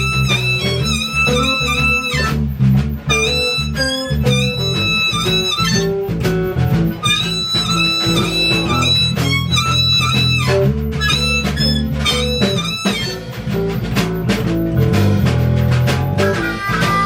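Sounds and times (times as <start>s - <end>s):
bass line: 0.0s - 17.0s
blues guitar bending notes: 0.0s - 17.0s.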